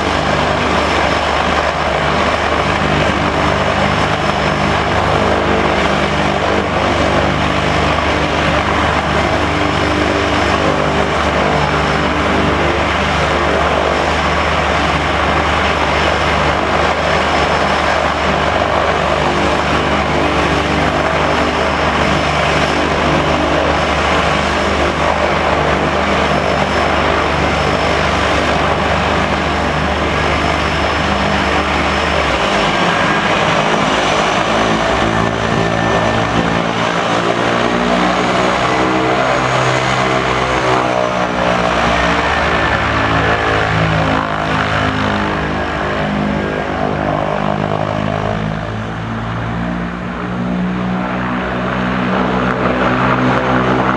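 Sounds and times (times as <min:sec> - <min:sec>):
high turbine whine: 0:00.0 - 0:53.9
propeller drone: 0:00.0 - 0:53.9.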